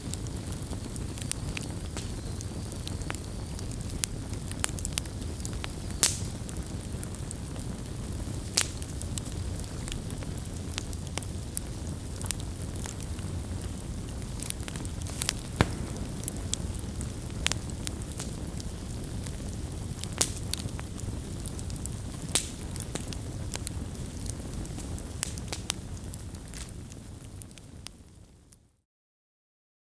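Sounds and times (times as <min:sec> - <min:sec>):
bonfire crackling and popping: 0:00.0 - 0:28.6
low rumble of flames: 0:00.0 - 0:28.6.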